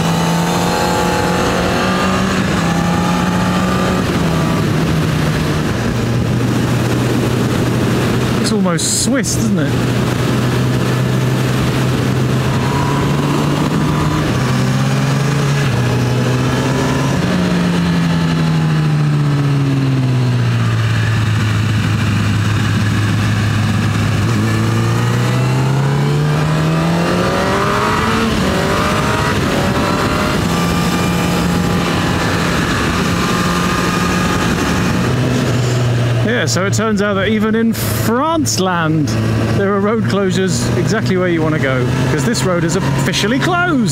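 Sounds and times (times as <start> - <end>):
wind rush: 0.0 - 39.8
motorcycle engine running: 0.0 - 43.9.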